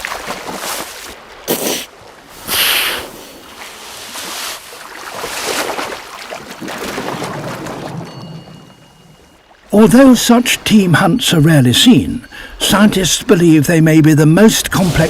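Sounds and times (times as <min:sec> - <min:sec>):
sea water splashing: 0:00.0 - 0:15.0.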